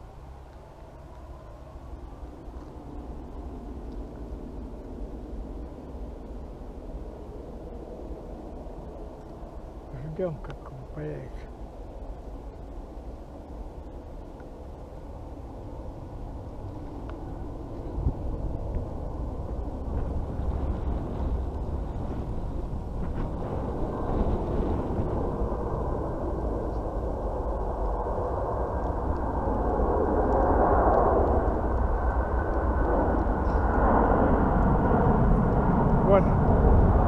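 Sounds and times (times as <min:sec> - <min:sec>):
distant jet airliner taking off: 0:00.0 - 0:37.0.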